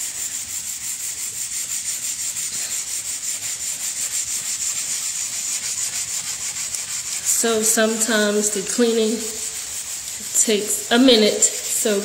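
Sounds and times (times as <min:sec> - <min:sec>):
scrub pad scrubbing wooden floor: 0:00.0 - 0:12.0.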